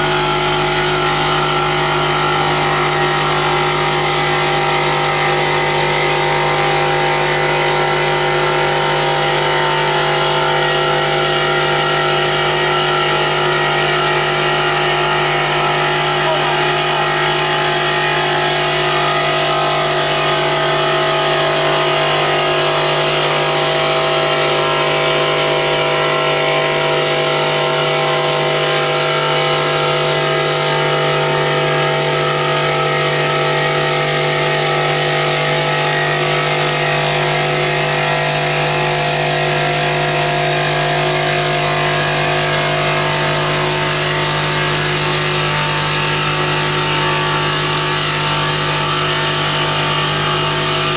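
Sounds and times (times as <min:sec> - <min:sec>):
polishing machine motor hum: 0:00.0 - 0:50.9.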